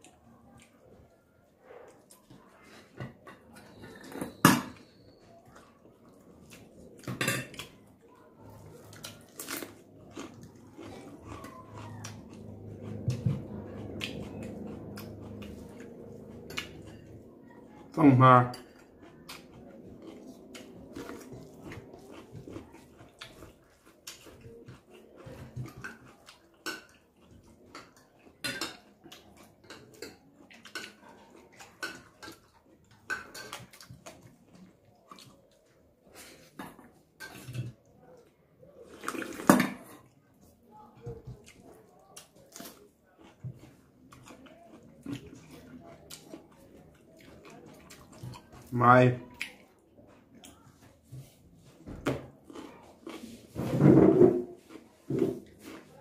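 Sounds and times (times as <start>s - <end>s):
person chewing food: 0.0s - 53.6s, 54.3s - 56.0s.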